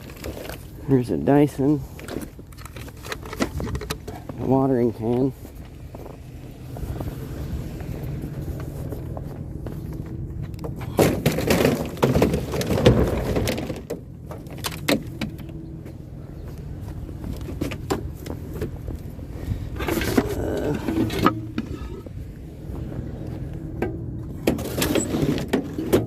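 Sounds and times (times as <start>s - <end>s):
vehicle idling rumble: 0.0s - 26.0s
junk clattering and knocking: 2.0s - 26.0s.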